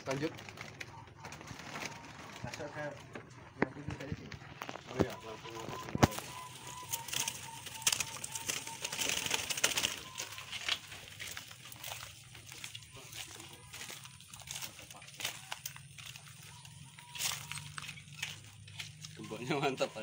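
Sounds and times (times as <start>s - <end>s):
doves calling: 0.0s - 20.0s
scuffing and rustling: 1.3s - 20.0s.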